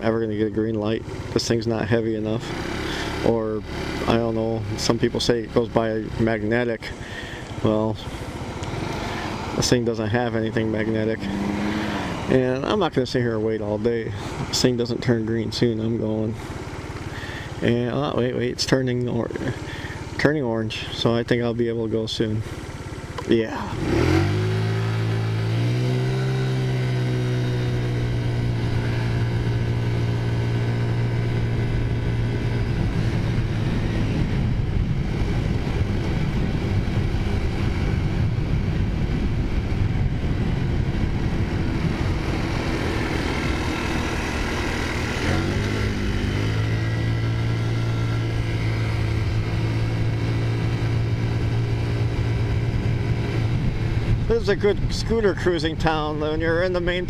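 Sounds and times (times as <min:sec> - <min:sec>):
wind and road noise: 0:00.0 - 0:57.0
scooter engine revving: 0:00.9 - 0:18.6, 0:19.3 - 0:20.4, 0:22.4 - 0:54.3.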